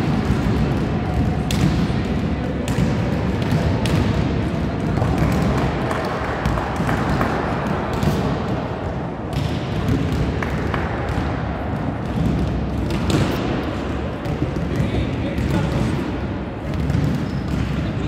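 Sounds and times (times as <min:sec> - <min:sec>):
indistinct voices in a hall: 0:00.0 - 0:18.0.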